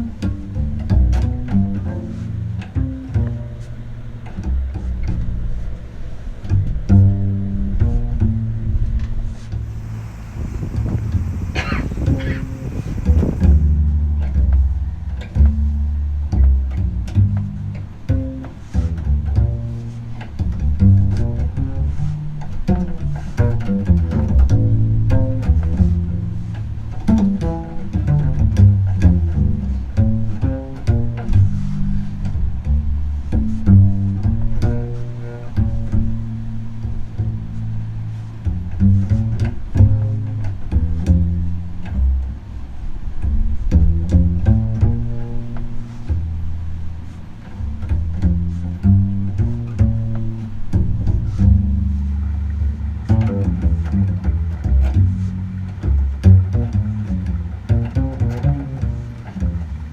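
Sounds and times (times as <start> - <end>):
double bass plucked melody: 0.0 - 59.9.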